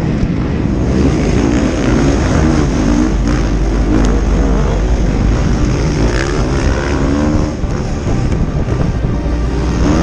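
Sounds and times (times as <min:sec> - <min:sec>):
motocross bike engine revving: 0:00.0 - 0:10.0
wind rumble on microphone: 0:00.0 - 0:10.0.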